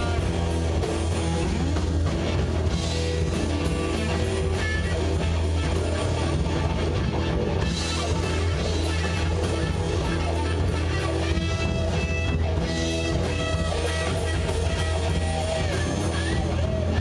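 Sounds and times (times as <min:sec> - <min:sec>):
distorted electric guitars: 0:00.0 - 0:17.0
drum kit beat: 0:00.0 - 0:17.0.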